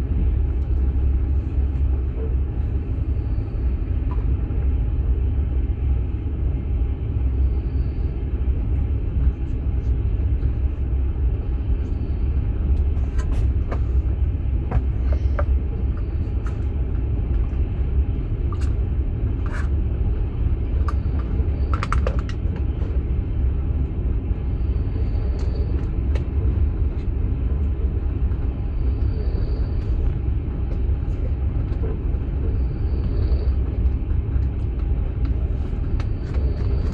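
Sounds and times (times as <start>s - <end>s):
train running rumble: 0.0s - 36.9s.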